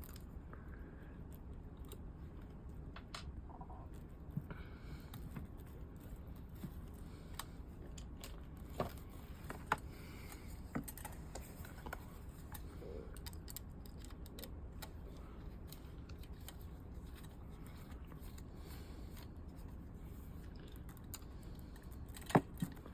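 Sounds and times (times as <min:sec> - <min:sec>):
low hum: 0:00.0 - 0:22.9.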